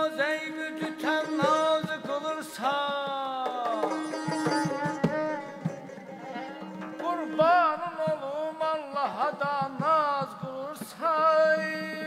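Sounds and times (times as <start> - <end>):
frame drum and drum rhythm: 0.0 - 12.0
person singing: 0.0 - 12.0.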